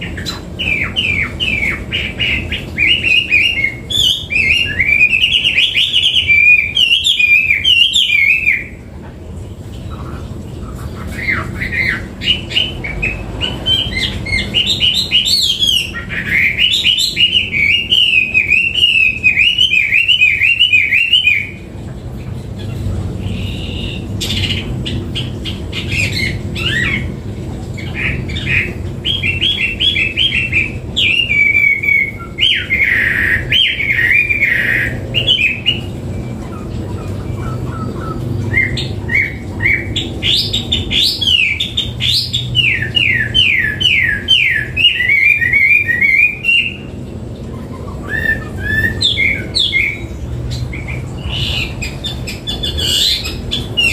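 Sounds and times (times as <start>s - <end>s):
songbird warbling: 0.0s - 8.8s, 9.8s - 21.7s, 22.5s - 53.9s.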